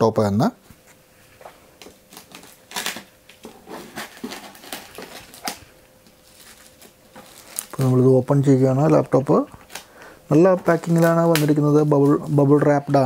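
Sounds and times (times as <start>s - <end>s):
plastic wrap crinkling: 1.9s - 13.0s.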